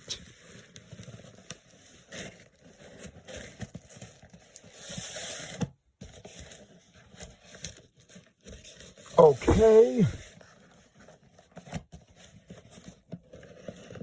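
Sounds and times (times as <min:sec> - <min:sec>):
packaging rustling and scraping: 0:00.3 - 0:09.0, 0:10.6 - 0:14.0.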